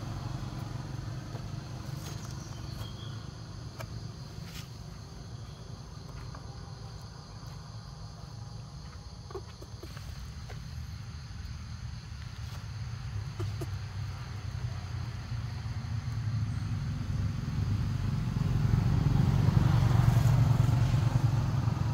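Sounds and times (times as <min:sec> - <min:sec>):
insects chirring: 0:00.0 - 0:21.9.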